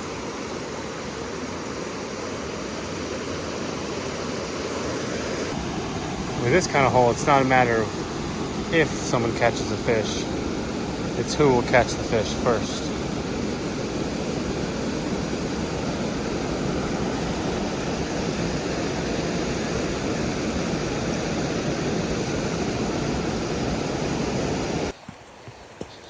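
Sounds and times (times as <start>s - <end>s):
creek running over rocks: 4.7s - 26.0s.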